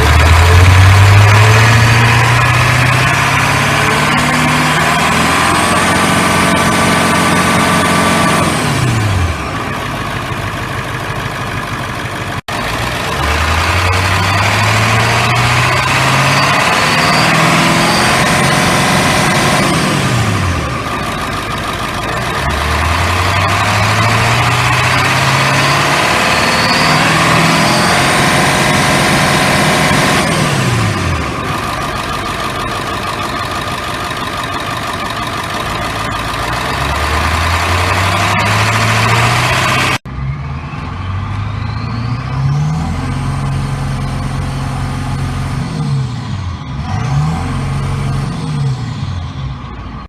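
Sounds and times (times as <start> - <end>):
diesel engine revving: 0.0 - 50.0.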